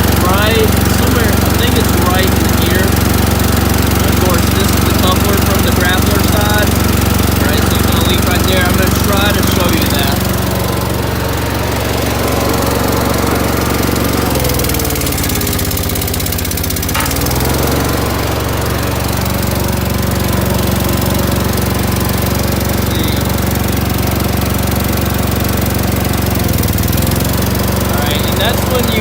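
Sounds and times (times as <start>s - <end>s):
mini skid steer engine running: 0.0s - 29.0s.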